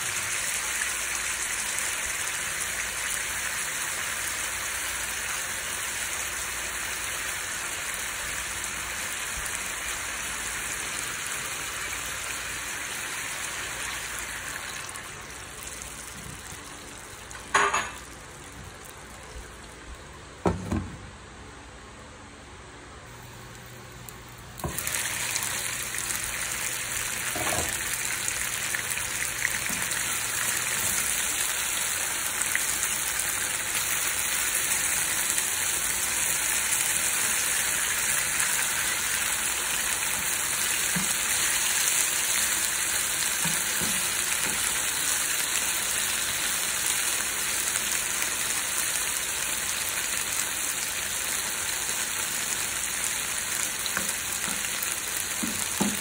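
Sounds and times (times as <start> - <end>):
chicken sizzling in oil: 0.0 - 19.9, 24.6 - 56.0.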